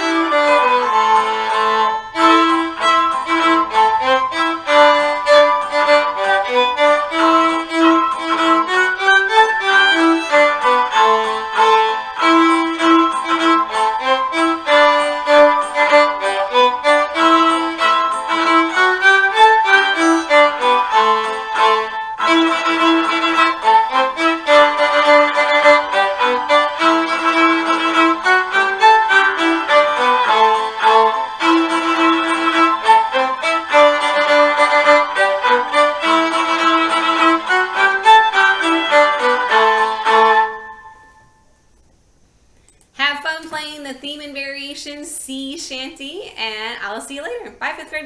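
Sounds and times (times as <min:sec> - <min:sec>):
viola playing bowed notes: 0:00.0 - 0:41.5
accompaniment recording: 0:00.0 - 0:48.0.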